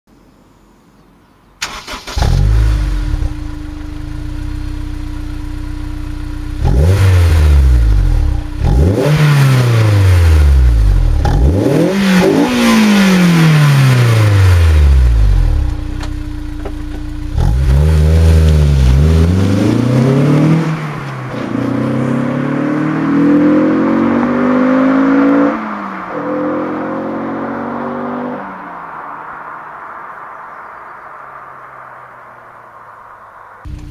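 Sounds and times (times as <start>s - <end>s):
car engine idling and revving: 1.6s - 33.9s.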